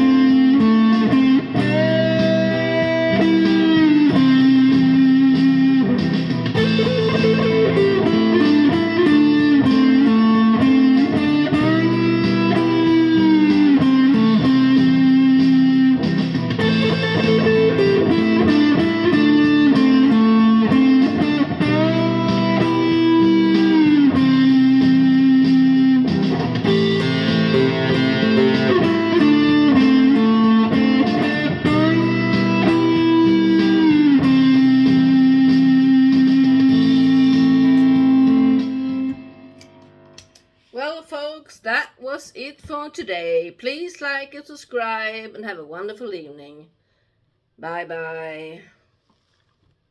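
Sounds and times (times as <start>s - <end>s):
electric guitar melody: 0.0s - 40.7s.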